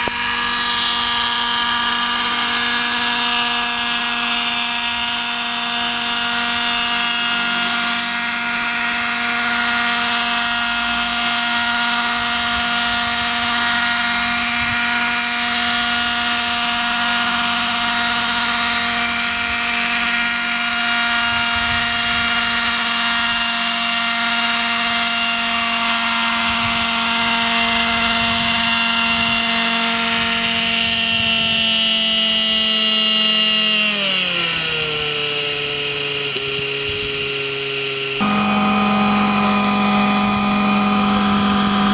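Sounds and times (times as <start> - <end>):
model helicopter engine and rotors: 0.0 - 41.9.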